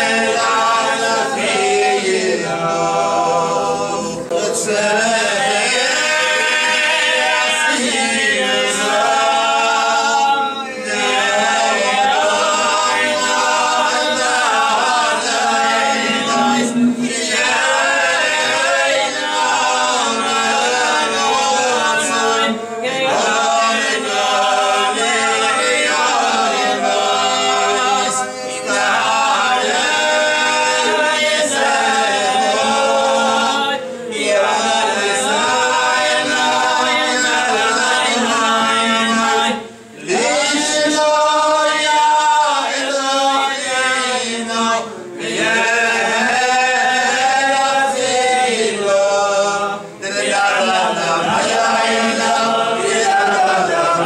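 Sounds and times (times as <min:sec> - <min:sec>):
men singing prayers together: 0:00.0 - 0:54.0.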